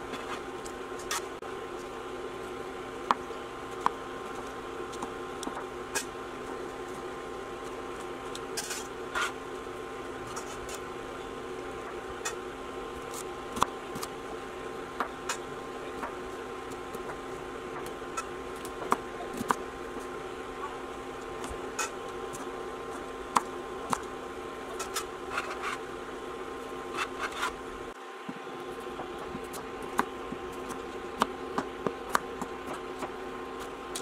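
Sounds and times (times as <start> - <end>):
induction cooktop hum: 0.0 - 34.0.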